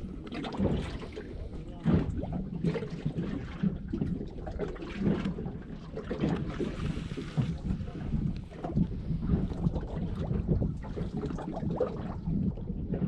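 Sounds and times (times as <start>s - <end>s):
water around boat: 0.0s - 13.0s
wind buffeting microphone: 0.0s - 13.0s.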